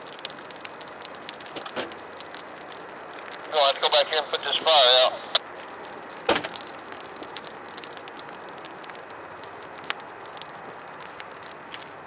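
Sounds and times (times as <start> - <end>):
grass fire hissing and crackling: 0.0 - 12.0.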